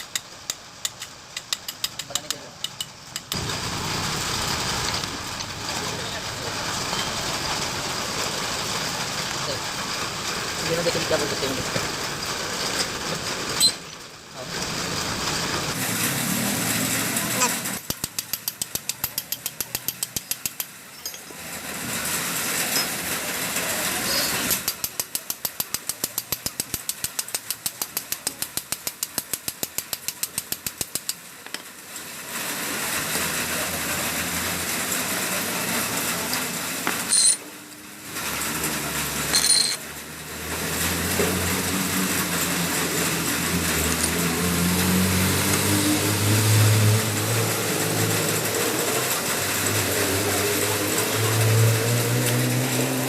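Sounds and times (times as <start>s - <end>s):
power tool hammering: 0.0s - 14.0s, 15.7s - 23.6s, 24.2s - 31.7s, 35.5s - 37.5s, 38.3s - 53.0s
engine-like hum: 0.0s - 53.0s.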